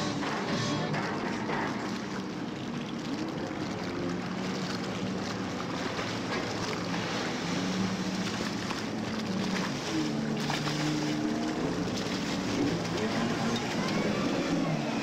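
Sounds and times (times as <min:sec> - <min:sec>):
jet ski engine: 0:00.0 - 0:15.0.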